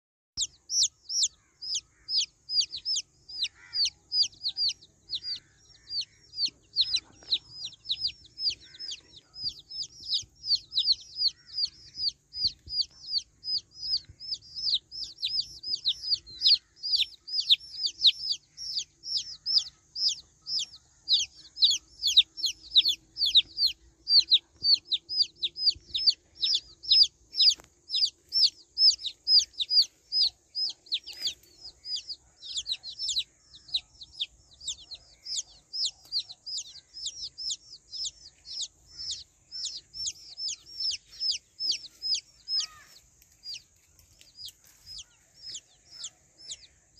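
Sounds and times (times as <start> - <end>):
baby chicks peeping: 0.4 - 46.9.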